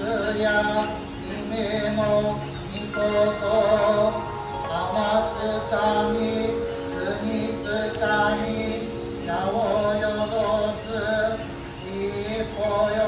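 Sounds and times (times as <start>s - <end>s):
slow melody of sliding notes: 0.0s - 13.0s.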